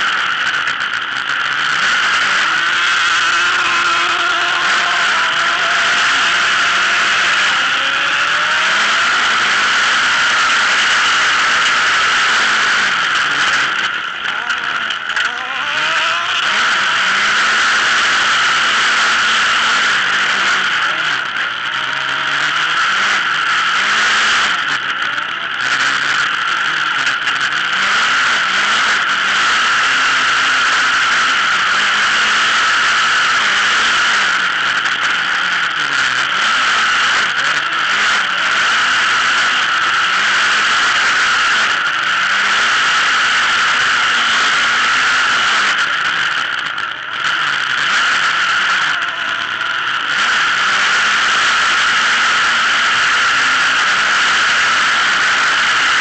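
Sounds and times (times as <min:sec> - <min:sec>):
buggy engine racing: 0:00.0 - 0:56.0.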